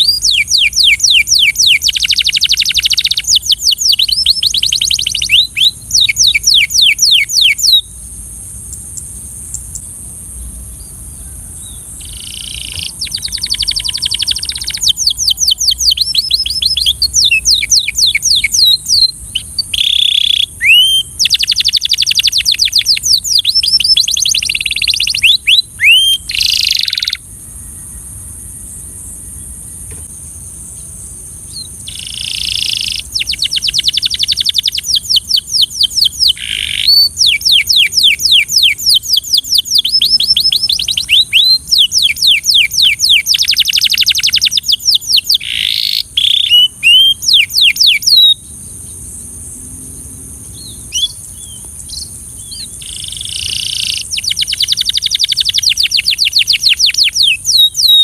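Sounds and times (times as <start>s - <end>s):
faint high hiss: 0.0s - 57.8s
canary singing fast trills: 0.0s - 58.0s.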